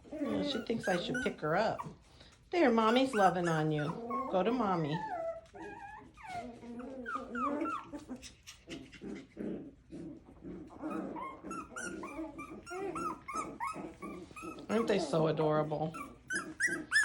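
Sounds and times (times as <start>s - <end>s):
puppies growling: 0.0s - 17.0s
puppies whining and yipping: 0.0s - 17.0s.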